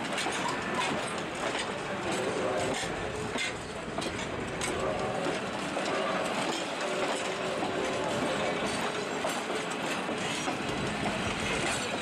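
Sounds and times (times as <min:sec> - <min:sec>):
clickety-clack of rail joints: 0:00.0 - 0:12.0
train wheels rumbling on rails: 0:00.0 - 0:12.0.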